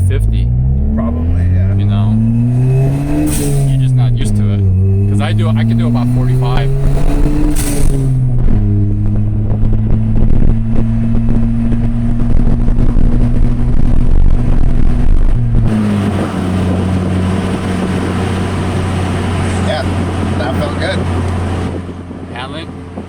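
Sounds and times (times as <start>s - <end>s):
car engine droning at cruise: 0.0s - 23.0s.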